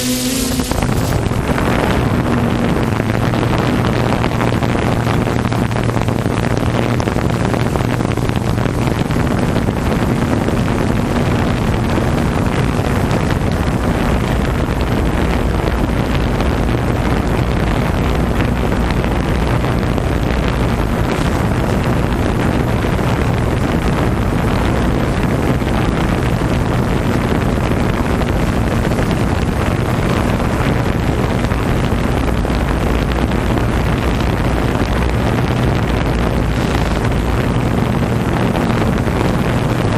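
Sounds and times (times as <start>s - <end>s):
boat engine droning: 0.0s - 39.9s
wind rumbling on microphone: 0.0s - 39.9s.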